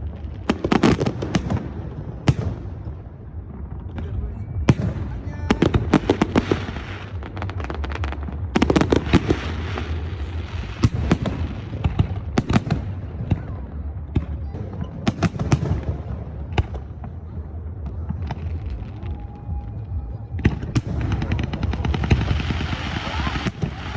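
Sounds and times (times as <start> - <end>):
echoing booms: 0.0 - 23.9
fireworks bangs and crackling: 0.0 - 23.9.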